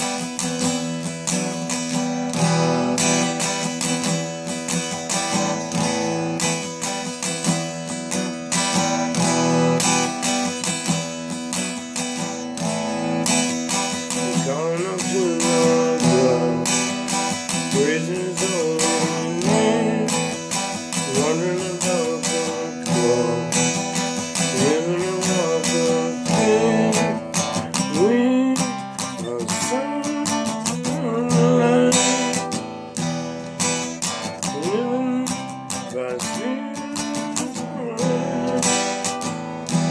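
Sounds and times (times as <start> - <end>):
acoustic guitar strumming chords: 0.0 - 39.9
sliding lead guitar melody: 0.0 - 39.9.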